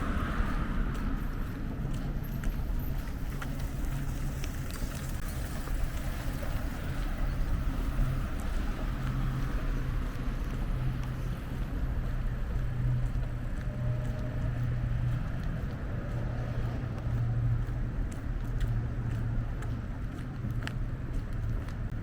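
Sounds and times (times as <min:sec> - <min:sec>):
street noise: 0:00.0 - 0:22.0
vehicle engine humming: 0:00.0 - 0:22.0.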